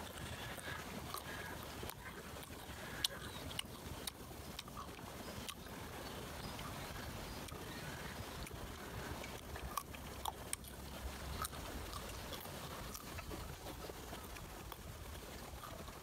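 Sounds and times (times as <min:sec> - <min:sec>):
crunchy bites and chewing: 0:00.0 - 0:16.0
steady low rumble: 0:00.0 - 0:16.0.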